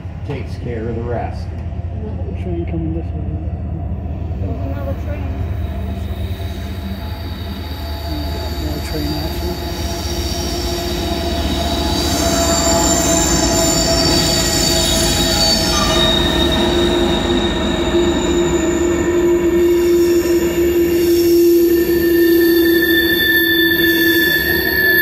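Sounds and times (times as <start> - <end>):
train low rumble: 0.0 - 25.0
train wheels squealing: 4.4 - 25.0.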